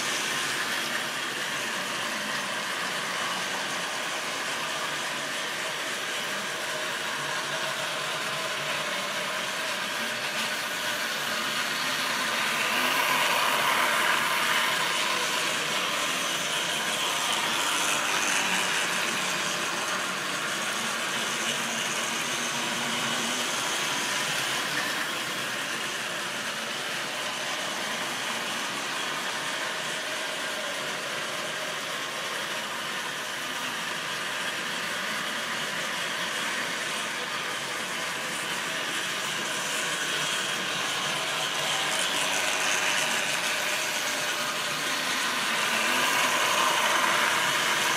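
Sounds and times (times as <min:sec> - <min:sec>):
model train running on rails: 0:00.0 - 0:47.9.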